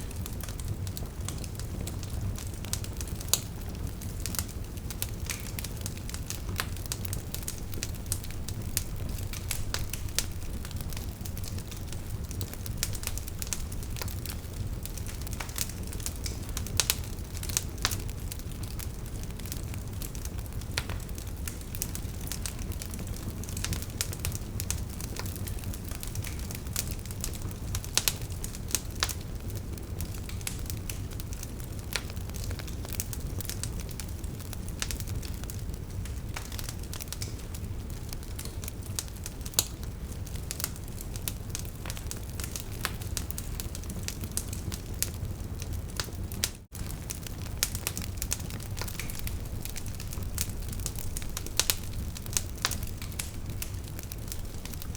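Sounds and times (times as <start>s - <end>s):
logs crackling and popping: 0.0s - 54.9s
wood fire flames rumbling: 0.0s - 54.9s.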